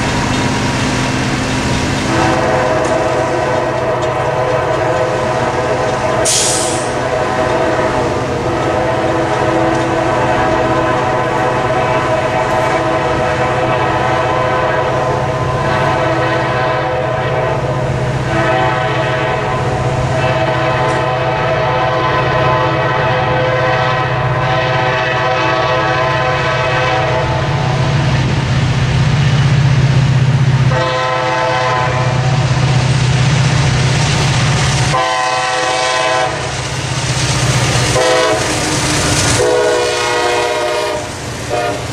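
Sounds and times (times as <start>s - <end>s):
locomotive engines droning: 0.0s - 41.9s
passing train rumble: 0.0s - 41.9s
locomotive air horn blasts: 2.0s - 28.0s, 30.7s - 32.5s, 34.9s - 36.7s, 37.7s - 41.9s.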